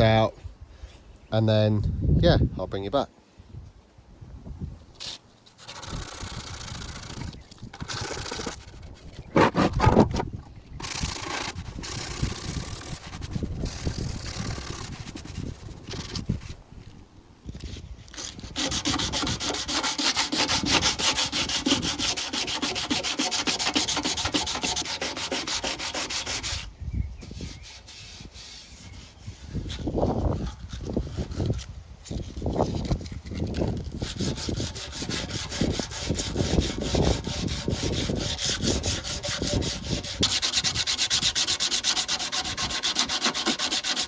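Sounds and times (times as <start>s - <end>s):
sandpaper scratching on metal: 5.0s - 16.6s, 18.1s - 33.1s, 33.9s - 44.0s.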